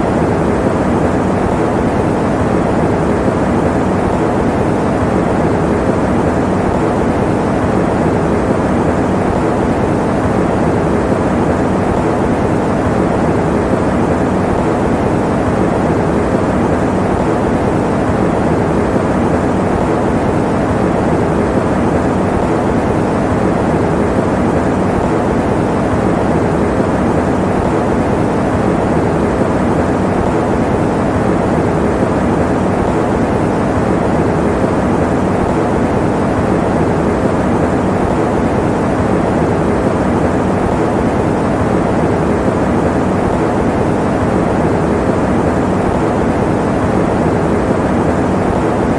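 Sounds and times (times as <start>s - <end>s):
electric fan running: 0.0s - 48.9s.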